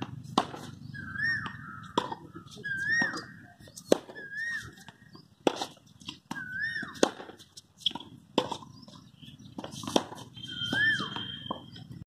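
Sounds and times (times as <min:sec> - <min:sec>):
rackets striking tennis ball: 0:00.0 - 0:12.0.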